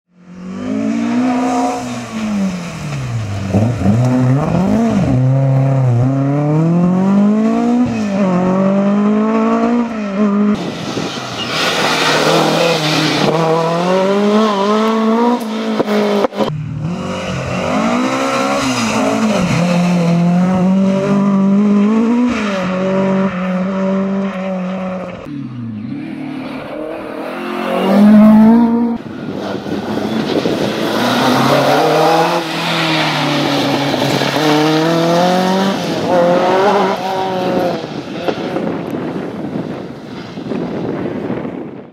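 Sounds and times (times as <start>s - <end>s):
rally car engine revving: 0.3s - 39.5s.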